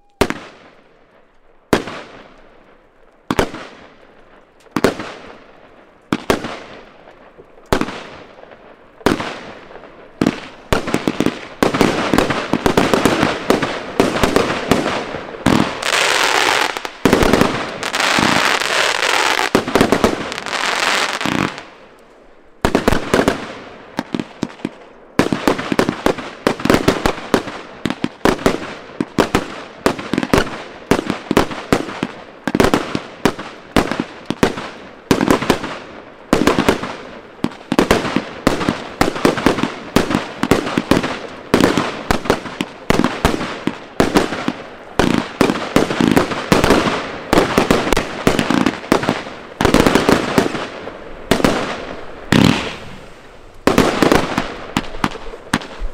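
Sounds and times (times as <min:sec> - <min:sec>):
fireworks bangs: 0:00.0 - 0:01.0, 0:01.7 - 0:02.6, 0:03.2 - 0:21.8, 0:22.6 - 0:55.9
hissing crackle of fireworks: 0:00.0 - 0:55.9.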